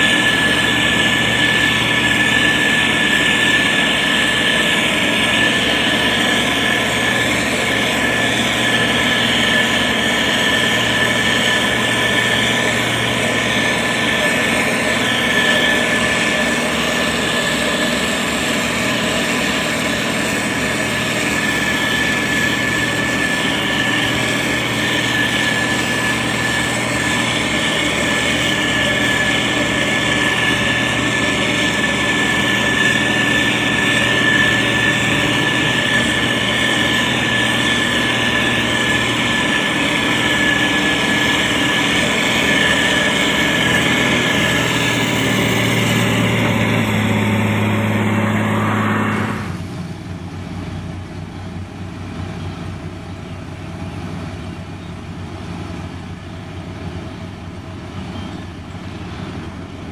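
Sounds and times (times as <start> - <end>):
diesel engine running: 0.0 - 59.9
high-pitched whine: 0.0 - 59.9.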